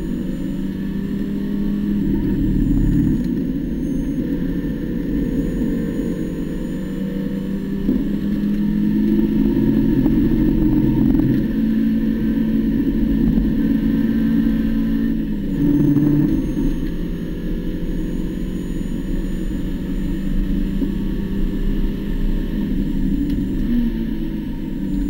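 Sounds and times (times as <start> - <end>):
race car engine at full throttle: 0.0 - 25.0.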